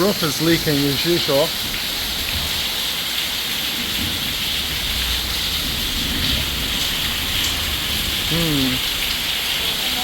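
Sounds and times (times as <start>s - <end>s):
hard rain falling: 0.0s - 10.0s
low rumble of wind: 1.5s - 9.6s.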